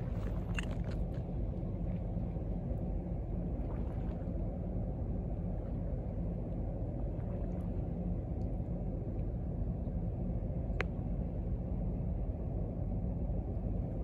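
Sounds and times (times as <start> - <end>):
low harbour rumble: 0.0 - 14.0.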